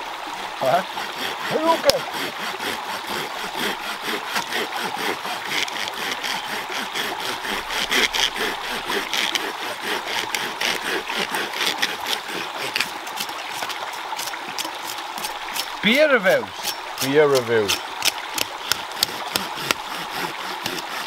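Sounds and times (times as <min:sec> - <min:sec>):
shallow stream rushing: 0:00.0 - 0:21.0
knives carving dry sticks: 0:01.8 - 0:21.0.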